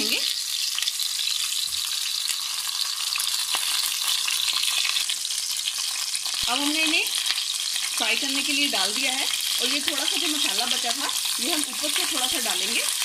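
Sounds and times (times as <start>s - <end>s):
gourds sizzling in hot oil: 0.0s - 13.0s.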